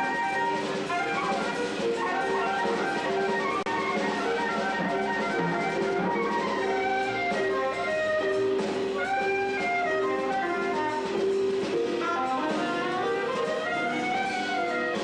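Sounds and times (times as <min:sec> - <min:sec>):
live jazz combo: 0:00.0 - 0:15.0
soprano saxophone runs: 0:00.0 - 0:15.0.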